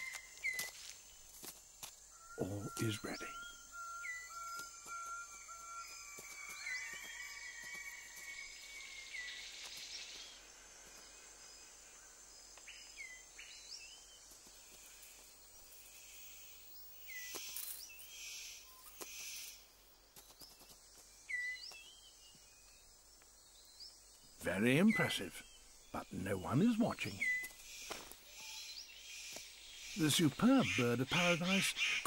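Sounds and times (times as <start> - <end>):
birds chirping: 0.0 - 32.0
insect hiss: 0.0 - 32.0.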